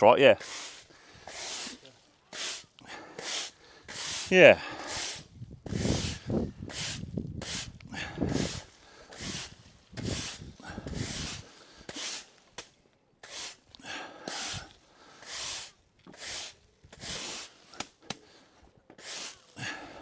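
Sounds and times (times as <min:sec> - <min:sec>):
broom sweeping: 0:00.3 - 0:19.9.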